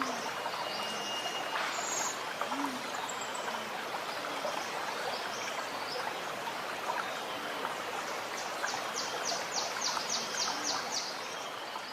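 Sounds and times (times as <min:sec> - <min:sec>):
running water gurgling: 0:00.0 - 0:11.9.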